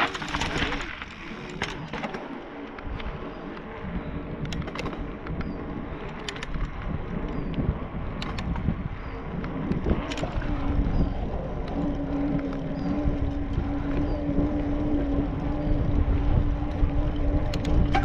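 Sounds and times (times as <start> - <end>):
bike clicks and rattles: 0.0 - 18.0
bike tyre rumble on asphalt: 0.0 - 18.0
wind buffeting microphone: 0.0 - 18.0.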